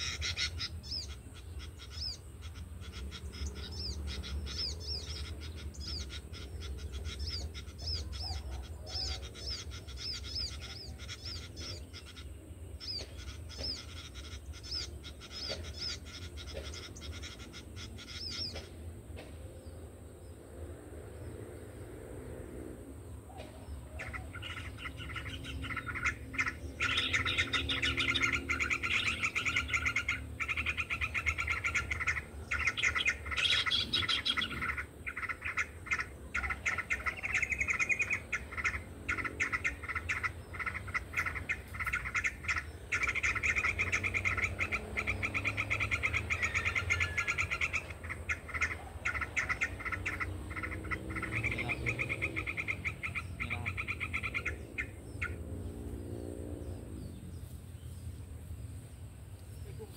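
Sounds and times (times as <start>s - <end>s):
songbirds twittering: 0.0s - 59.9s.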